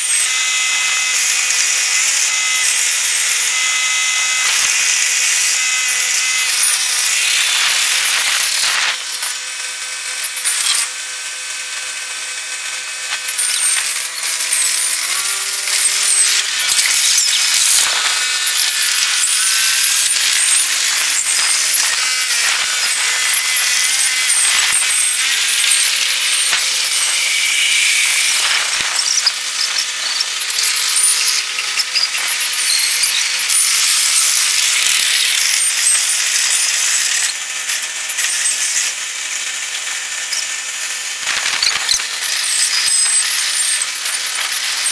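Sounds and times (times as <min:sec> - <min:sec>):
fast high-pitched mechanical chatter: 0:00.0 - 0:44.9.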